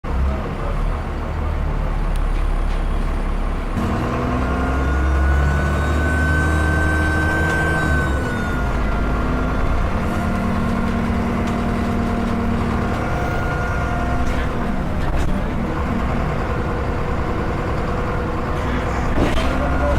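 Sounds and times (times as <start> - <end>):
bus engine running: 0.0 - 19.9.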